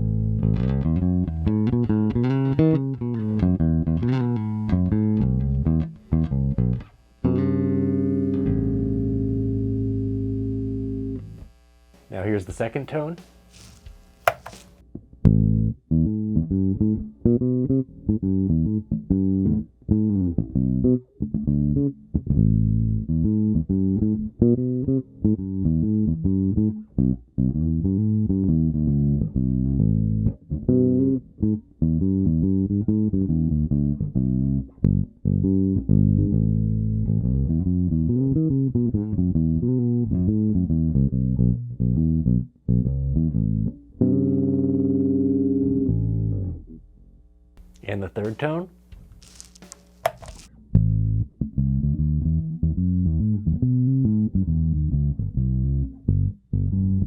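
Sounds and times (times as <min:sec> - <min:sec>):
electric bass riff: 0:00.0 - 0:11.4, 0:15.3 - 0:57.0.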